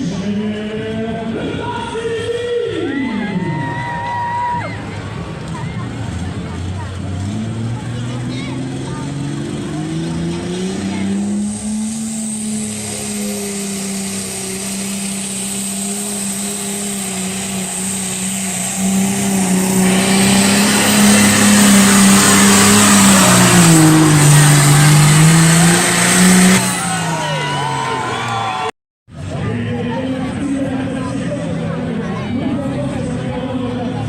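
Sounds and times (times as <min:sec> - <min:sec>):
tractor engine under full load: 0:04.6 - 0:34.0.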